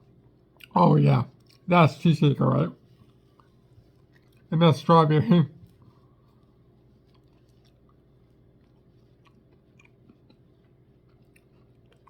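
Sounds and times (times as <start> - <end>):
low steady hum: 0.0 - 12.0
chewing and mouth sounds: 0.1 - 1.7, 2.8 - 4.6, 5.6 - 12.0.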